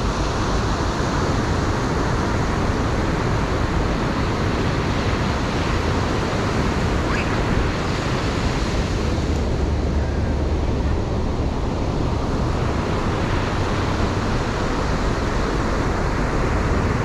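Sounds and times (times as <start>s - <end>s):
wind on microphone: 0.0s - 17.0s
ocean surf breaking: 3.0s - 17.0s.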